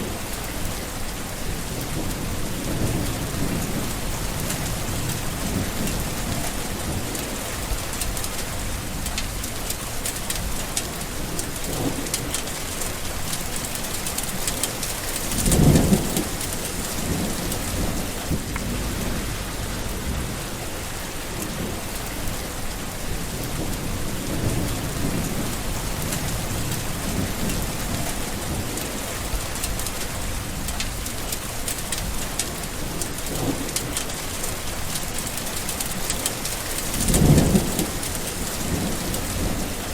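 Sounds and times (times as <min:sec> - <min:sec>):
heavy rain falling: 0:00.0 - 0:39.9
thunder rumbling: 0:01.3 - 0:13.3, 0:14.2 - 0:31.3, 0:35.9 - 0:39.9.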